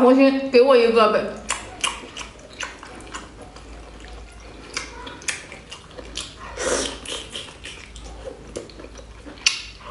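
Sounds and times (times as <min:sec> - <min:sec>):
person chewing and smacking food: 0:01.4 - 0:09.9
wet mouth clicks: 0:01.4 - 0:09.9.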